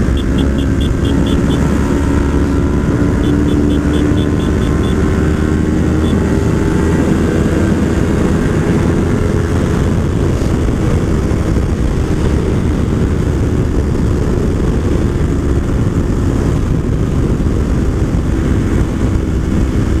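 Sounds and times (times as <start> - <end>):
motorcycle engine at speed: 0.0 - 20.0
wind rushing over microphone: 0.0 - 20.0.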